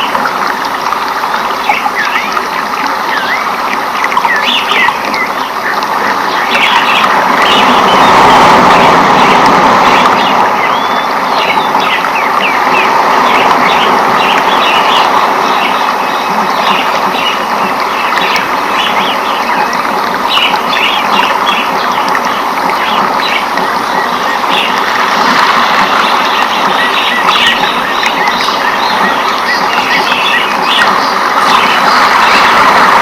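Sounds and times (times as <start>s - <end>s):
steady rushing background: 0.0s - 33.0s.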